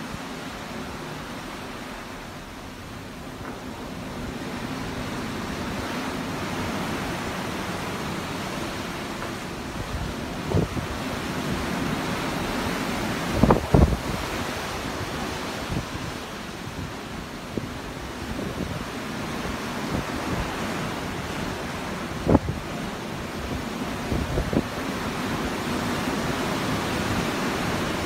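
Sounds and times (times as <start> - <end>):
ocean waves washing: 0.0 - 28.0.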